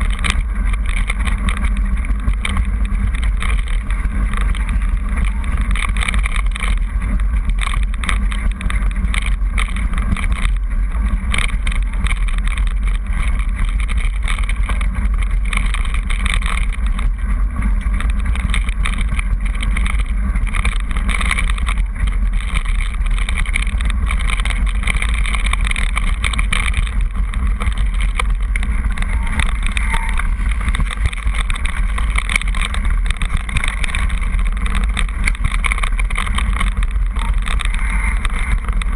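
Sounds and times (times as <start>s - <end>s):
bike rattling with clicks: 0.0s - 38.9s
tyres crunching on gravel: 0.0s - 38.9s
wind rumble on microphone: 0.0s - 38.9s.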